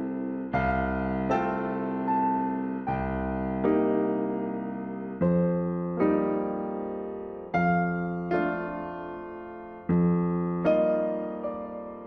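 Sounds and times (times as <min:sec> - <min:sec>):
gentle piano chords: 0:00.0 - 0:12.0.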